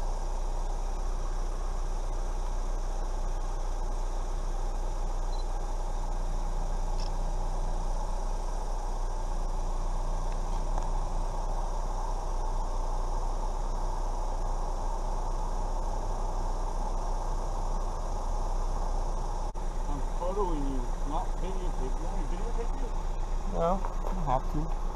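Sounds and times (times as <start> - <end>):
rattlesnake rattling: 0.0 - 24.9.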